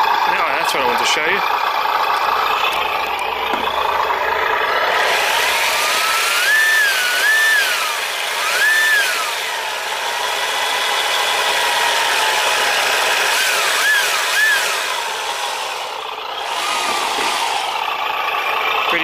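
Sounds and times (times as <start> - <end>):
simulated truck engine revving: 0.0 - 19.0
electric motor whine: 2.2 - 19.0.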